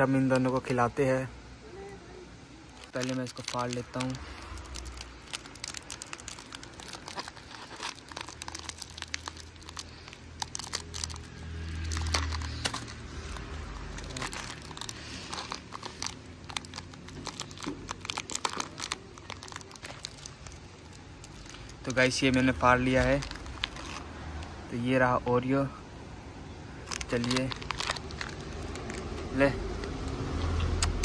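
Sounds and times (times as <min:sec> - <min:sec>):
plastic wrapper crinkling: 0:02.6 - 0:24.6, 0:26.8 - 0:30.2.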